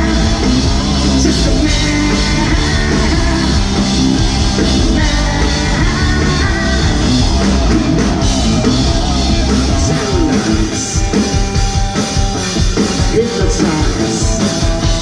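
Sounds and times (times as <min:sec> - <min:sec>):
drum kit: 0:00.0 - 0:15.0
rock band playing live: 0:00.0 - 0:15.0.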